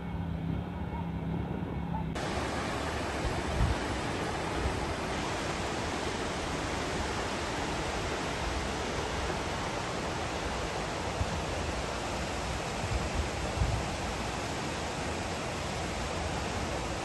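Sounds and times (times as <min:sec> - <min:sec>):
floodwater rushing: 0:02.2 - 0:17.0.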